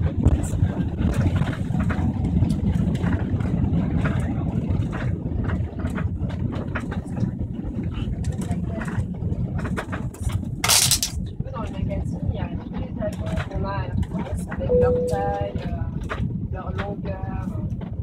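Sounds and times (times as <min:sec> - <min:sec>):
wheels on runway: 0:00.0 - 0:14.7
deep rumble of jet engines: 0:00.0 - 0:18.0.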